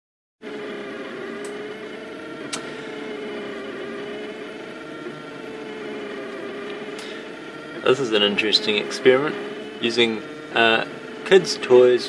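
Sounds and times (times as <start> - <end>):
printer motors whining hum: 0.4 - 12.0.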